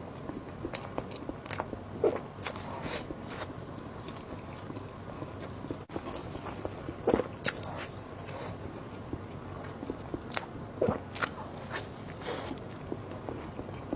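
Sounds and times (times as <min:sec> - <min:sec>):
chewing: 0:00.2 - 0:13.9.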